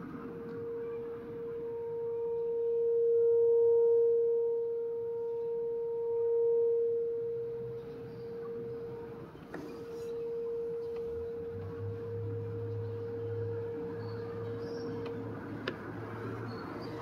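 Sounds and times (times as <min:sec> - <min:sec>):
rotating warning siren: 0:00.0 - 0:17.0.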